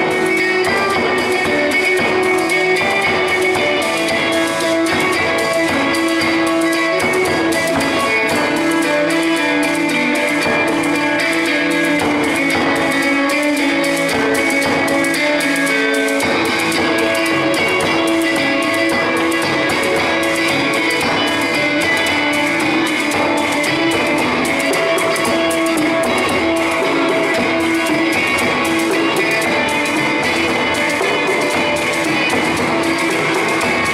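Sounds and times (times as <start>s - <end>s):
electric guitar sustained notes: 0.0s - 33.9s.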